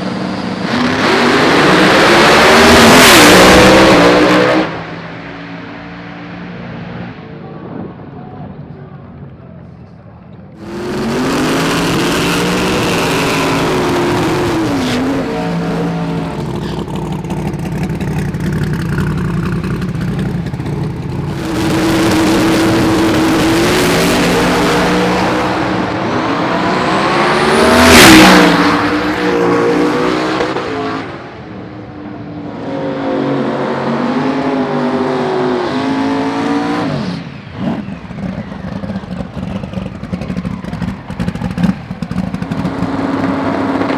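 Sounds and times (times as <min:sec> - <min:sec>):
drag racing car engines revving: 0:00.0 - 0:07.8, 0:10.6 - 0:43.9.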